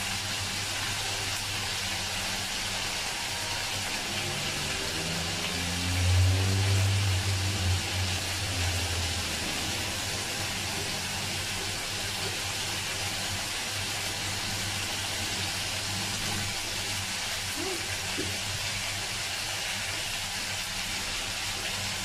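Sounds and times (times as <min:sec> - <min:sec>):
meat sizzling in a frying pan: 0:00.0 - 0:22.0.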